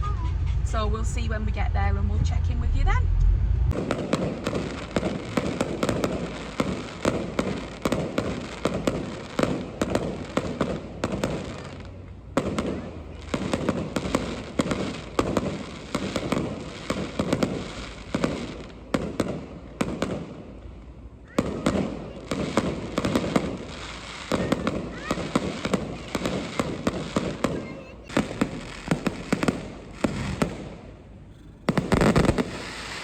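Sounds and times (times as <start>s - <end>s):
fireworks bangs and crackles: 3.7s - 33.0s.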